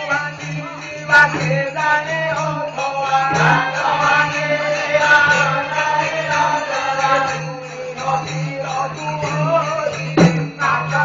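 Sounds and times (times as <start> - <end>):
folk singing with instruments: 0.0 - 11.0
jingling percussion: 0.0 - 11.0.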